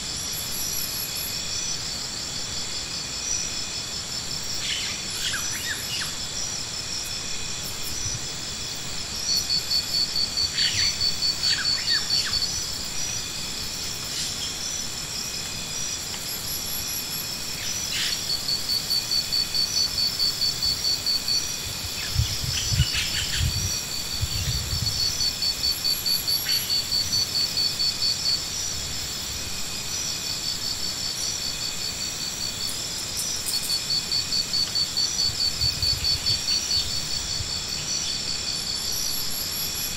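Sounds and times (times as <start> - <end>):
insects calling in pulsing trains: 0.0 - 39.9.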